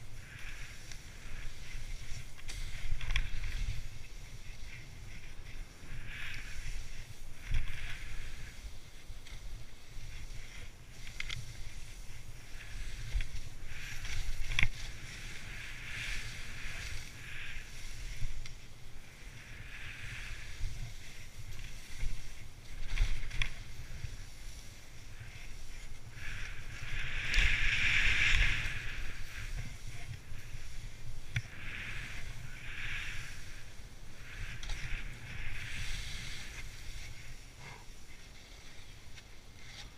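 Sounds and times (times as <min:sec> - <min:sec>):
skis swishing through snow: 0:00.0 - 0:39.9.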